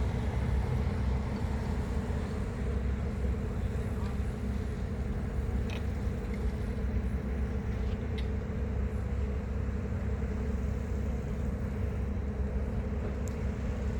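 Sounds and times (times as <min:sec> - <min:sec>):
ferry engine running: 0:00.0 - 0:13.9.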